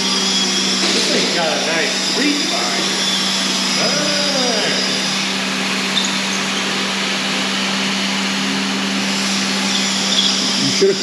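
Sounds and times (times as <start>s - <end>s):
shop vacuum running: 0.0s - 11.0s.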